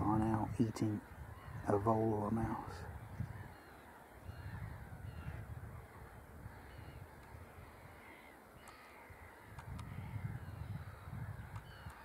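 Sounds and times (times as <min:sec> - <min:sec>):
faint birds calling: 0:00.0 - 0:12.0.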